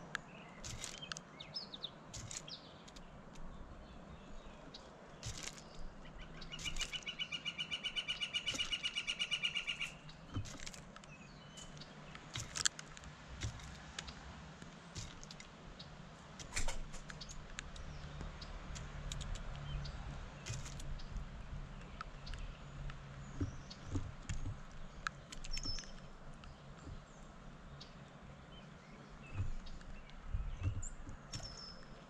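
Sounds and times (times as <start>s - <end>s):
bird pecking seeds on wood: 0.0s - 32.0s
songbird trill: 0.0s - 32.0s.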